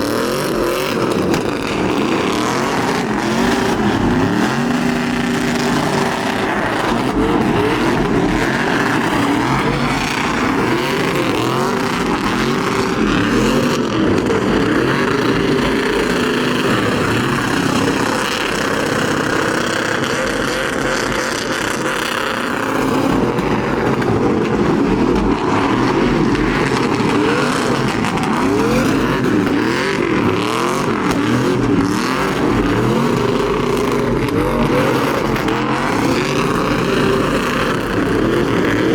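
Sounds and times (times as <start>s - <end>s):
truck engines revving: 0.0s - 38.9s.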